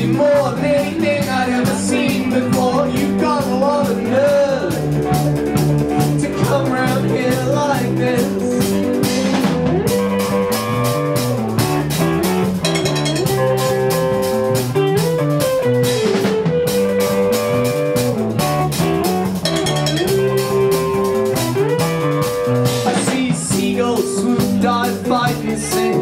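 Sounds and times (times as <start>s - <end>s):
bass guitar: 0.0s - 26.0s
drum kit steady beat: 0.0s - 26.0s
sliding guitar lead: 0.0s - 26.0s.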